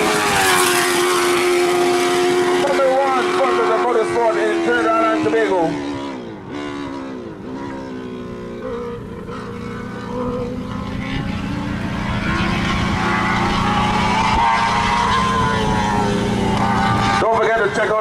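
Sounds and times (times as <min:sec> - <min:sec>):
race car engines accelerating: 0:00.0 - 0:18.0.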